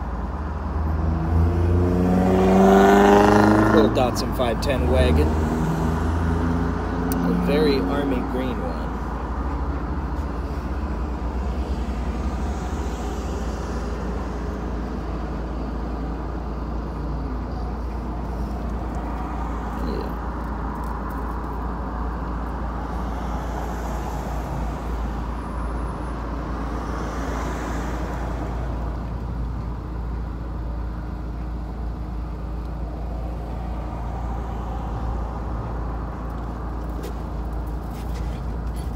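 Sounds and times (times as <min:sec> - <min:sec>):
car engine driving: 0:00.0 - 0:38.9
road noise: 0:00.0 - 0:38.9.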